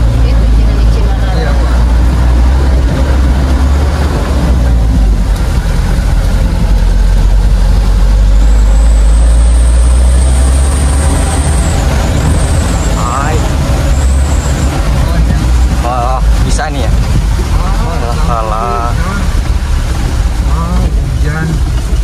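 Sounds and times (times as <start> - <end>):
truck engine droning: 0.0 - 22.0.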